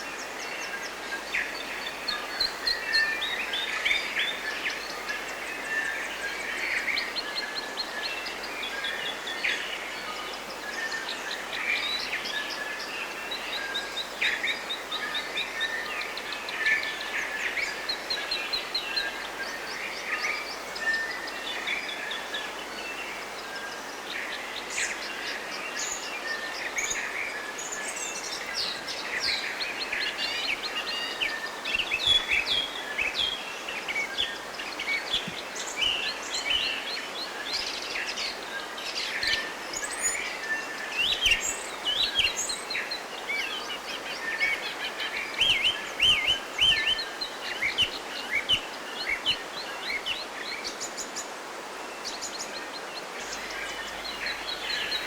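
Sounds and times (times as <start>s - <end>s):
background hiss: 0.0s - 55.0s
birds chirping chorus: 0.0s - 55.0s.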